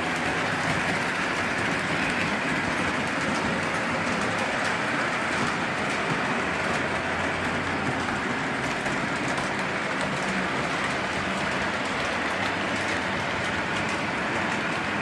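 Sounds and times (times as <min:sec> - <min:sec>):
model train rolling: 0:00.0 - 0:15.0.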